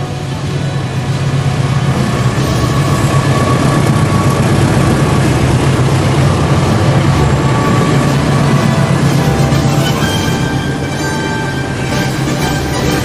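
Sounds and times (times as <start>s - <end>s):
locomotive engine rumble: 0.0s - 13.0s
train coaches rolling: 0.0s - 13.0s.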